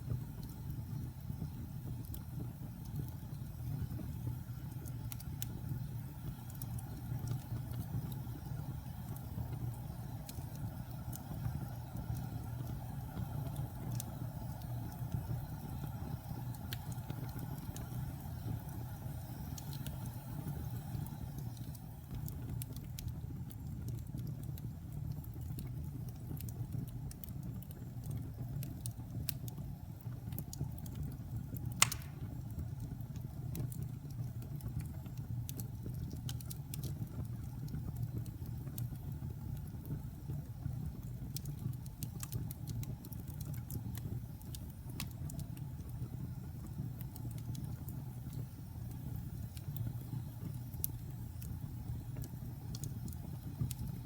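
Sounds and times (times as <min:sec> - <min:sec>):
fire crackles and pop: 0:00.0 - 0:54.0
fire flames rumbling: 0:00.0 - 0:54.0.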